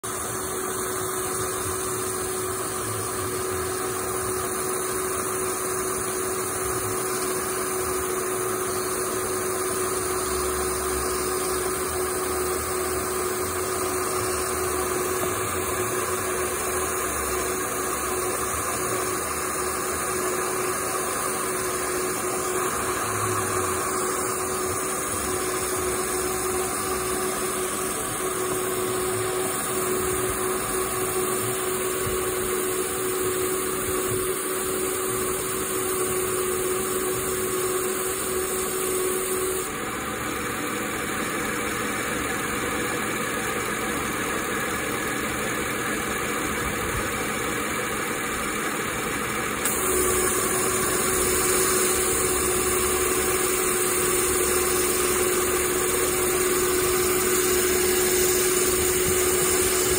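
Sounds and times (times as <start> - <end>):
car engine running: 0.0 - 59.9
constant engine whine: 0.0 - 59.9.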